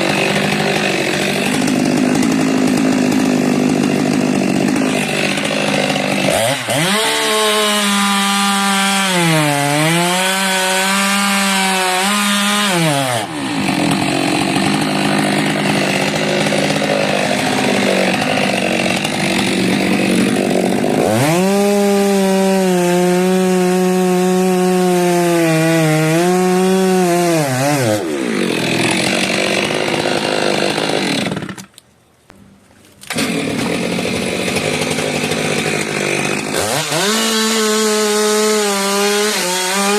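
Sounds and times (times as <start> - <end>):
chainsaw cutting wood: 0.0 - 31.7, 33.0 - 39.9.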